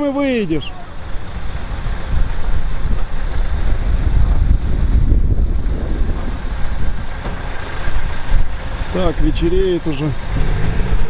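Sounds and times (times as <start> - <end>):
off-road vehicle engine rumbling: 0.0 - 11.0.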